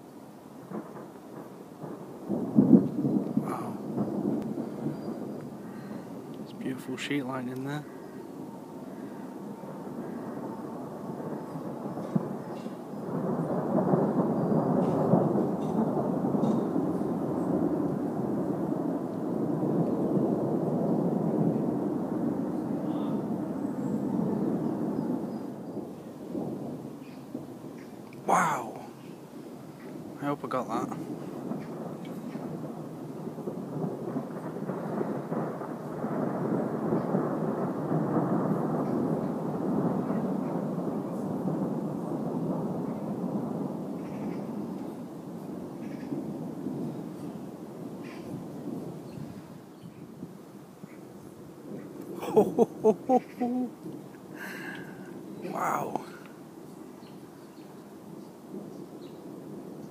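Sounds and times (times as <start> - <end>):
thunder rumbling: 0.0 - 56.7.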